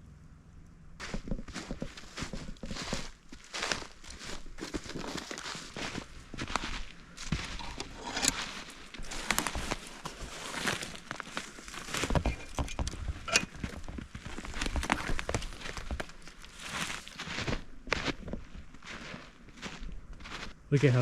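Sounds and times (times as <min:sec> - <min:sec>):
footsteps crunching through snow: 0:01.0 - 0:21.0.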